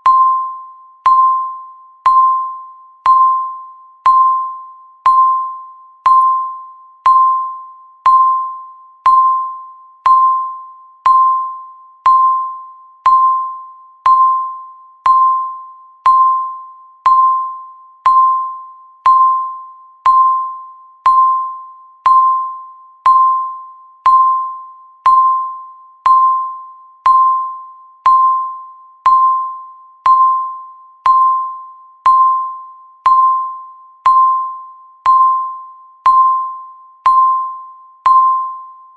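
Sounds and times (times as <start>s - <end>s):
electronic timer pings: 0.0s - 38.9s.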